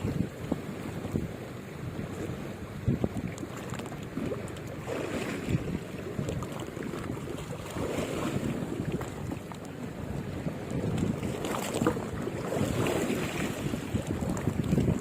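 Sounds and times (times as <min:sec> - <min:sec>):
sea water washing: 0:00.0 - 0:15.0
wind buffeting microphone: 0:00.0 - 0:15.0.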